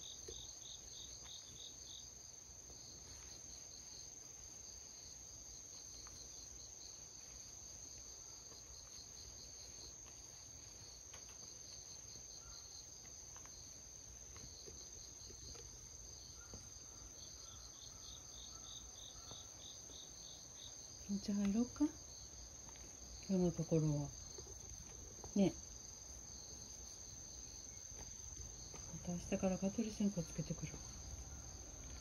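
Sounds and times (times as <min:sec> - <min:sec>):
insect drone: 0:00.0 - 0:32.0
pulsing insect chirp: 0:00.0 - 0:32.0.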